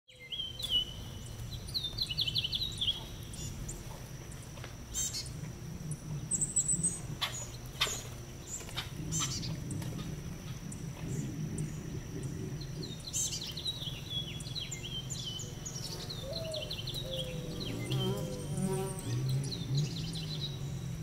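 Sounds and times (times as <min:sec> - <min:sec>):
birds chirping: 0:00.1 - 0:21.0
low background rumble: 0:00.9 - 0:21.0.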